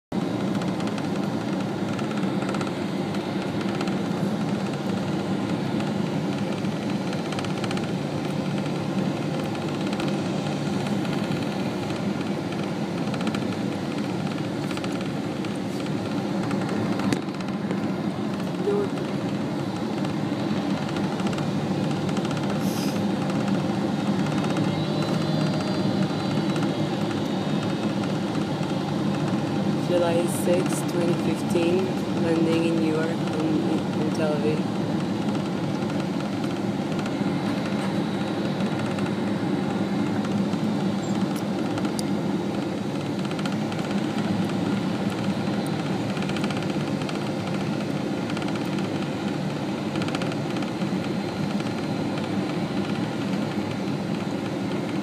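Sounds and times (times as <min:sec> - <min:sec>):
airliner cabin engine hum: 0:00.1 - 0:55.0.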